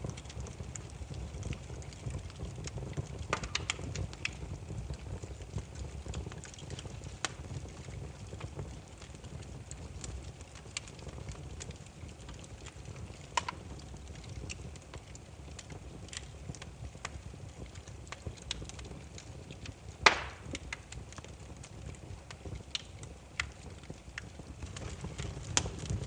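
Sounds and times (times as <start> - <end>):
firewood crackling: 0.0 - 26.0
low rumble of flame: 0.0 - 26.0
sharp pops of burning wood: 0.0 - 26.0.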